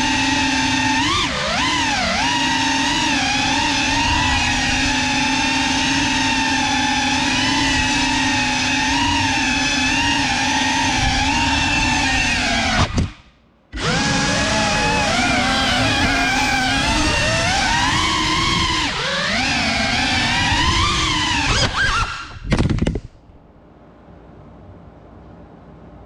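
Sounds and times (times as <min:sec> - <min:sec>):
drone motors whining: 0:00.0 - 0:13.0, 0:13.7 - 0:23.0.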